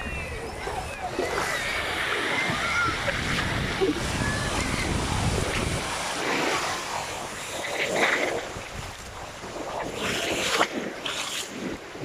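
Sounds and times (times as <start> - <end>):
wind on microphone: 0.0 - 12.0
small waves breaking: 0.3 - 12.0.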